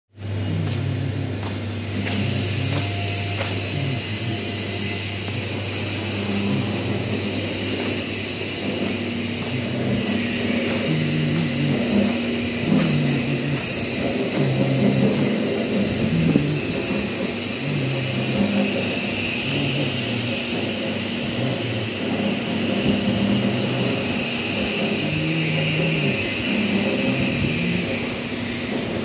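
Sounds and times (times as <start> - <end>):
low machinery hum: 0.1 - 29.0
machinery whine: 0.1 - 29.0.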